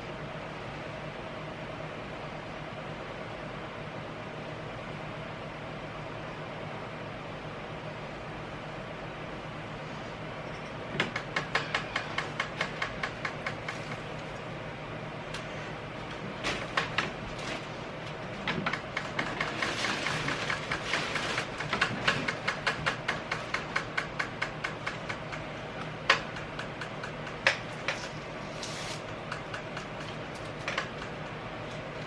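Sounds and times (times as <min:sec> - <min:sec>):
low room hum: 0:00.0 - 0:32.0.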